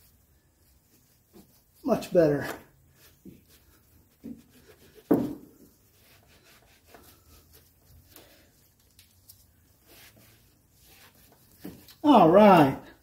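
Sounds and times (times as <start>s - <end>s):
cloth wiping plastic: 0.0s - 13.0s.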